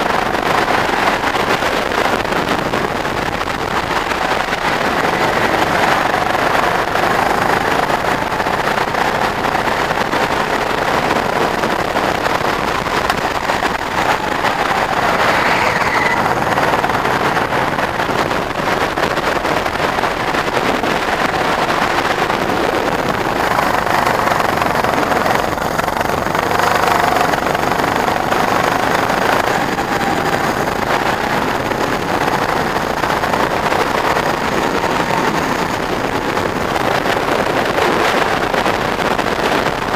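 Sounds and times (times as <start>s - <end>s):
go-kart engine revving: 0.0s - 39.9s
wind noise on microphone: 0.0s - 39.9s.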